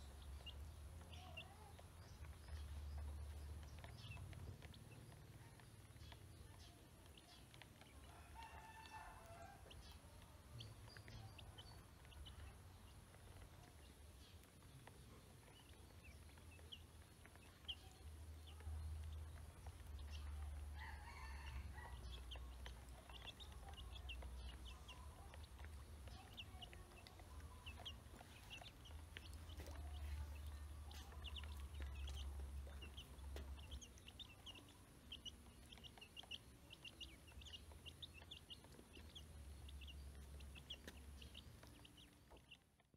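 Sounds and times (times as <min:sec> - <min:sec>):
ducklings peeping: 0:00.0 - 0:42.9.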